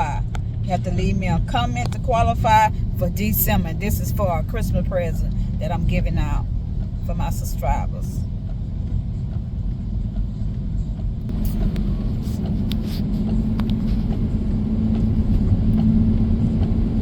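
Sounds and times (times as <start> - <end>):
low road rumble: 0.0 - 17.0
steady hum: 0.0 - 17.0.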